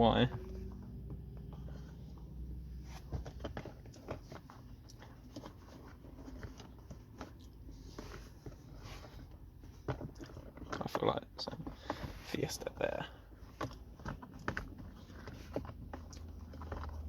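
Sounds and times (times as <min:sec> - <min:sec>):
pocket mat clicks and rustles: 0:00.3 - 0:17.0.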